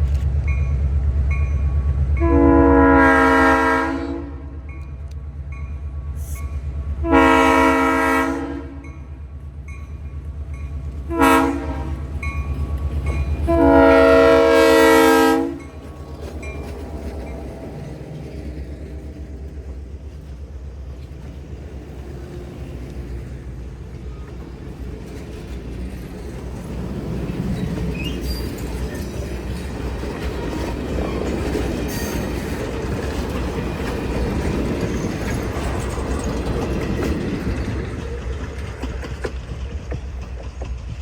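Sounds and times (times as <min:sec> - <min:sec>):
train engine rumble: 0:00.0 - 0:41.0
train wheels clattering and squealing: 0:04.7 - 0:06.7, 0:09.7 - 0:41.0.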